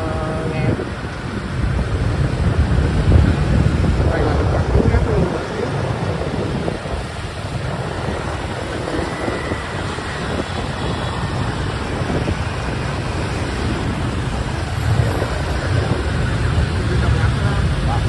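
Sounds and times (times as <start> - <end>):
scooter engines running: 0.0 - 18.0
wind over microphone: 0.0 - 18.0.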